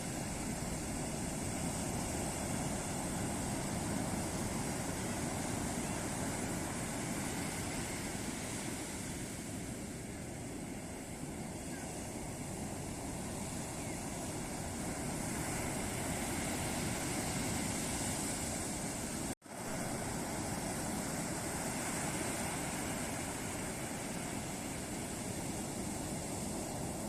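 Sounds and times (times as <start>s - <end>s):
ocean surf washing onto beach: 0.0s - 27.0s.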